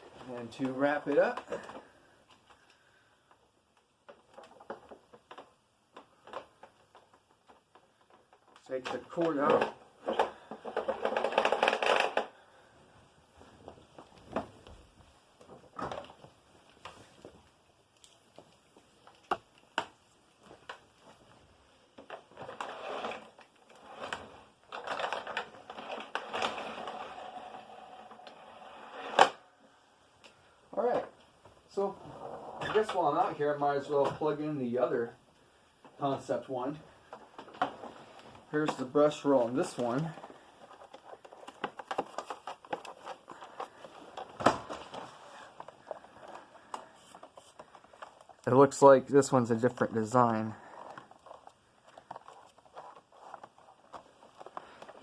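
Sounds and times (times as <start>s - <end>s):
rustling and scraping: 4.1s - 29.4s, 35.6s - 55.0s.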